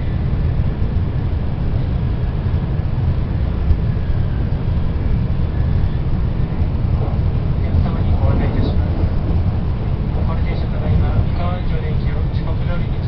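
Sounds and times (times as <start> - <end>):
train rumble inside cabin: 0.0 - 13.0.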